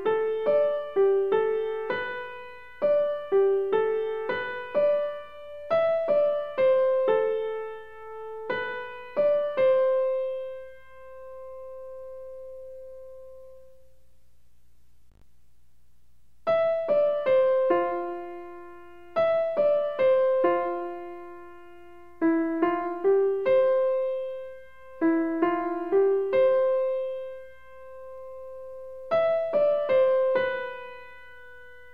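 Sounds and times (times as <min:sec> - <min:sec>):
piano music: 0:00.0 - 0:13.8, 0:16.5 - 0:31.9.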